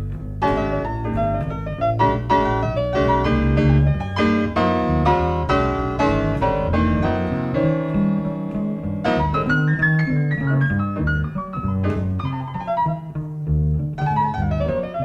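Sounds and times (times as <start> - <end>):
jazz piano: 0.0 - 15.0
low bass notes: 0.0 - 15.0.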